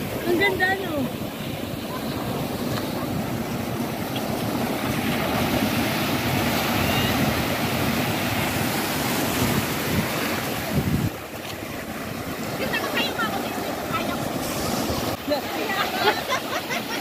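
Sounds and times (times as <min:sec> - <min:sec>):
wind rumbling on microphone: 0:00.0 - 0:15.2
ocean surf washing up beach: 0:00.0 - 0:17.0.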